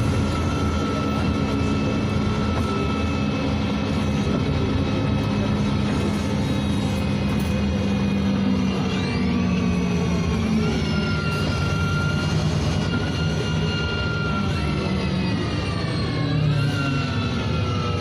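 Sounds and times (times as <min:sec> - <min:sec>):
bus diesel engine running: 0:00.0 - 0:18.0
drivetrain whine: 0:00.0 - 0:18.0.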